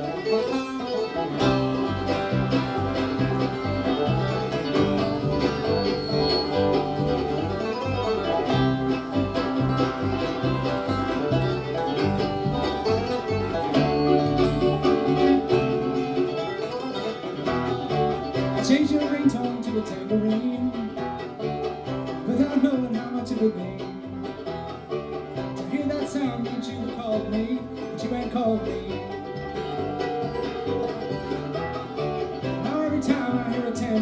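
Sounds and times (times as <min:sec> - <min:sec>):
banjo and guitar picking: 0:00.0 - 0:34.0
faint fiddle: 0:00.0 - 0:34.0
walking bass: 0:00.0 - 0:34.0.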